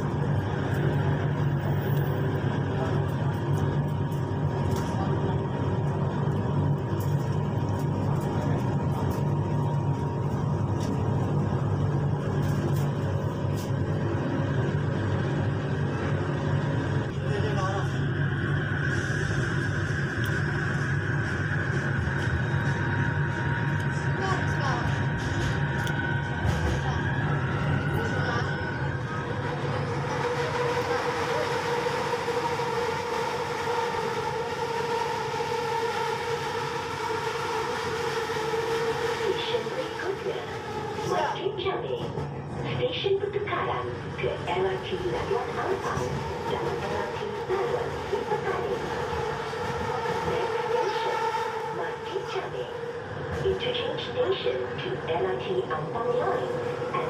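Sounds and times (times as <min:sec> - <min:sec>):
train rumble and hum: 0:00.0 - 0:57.0.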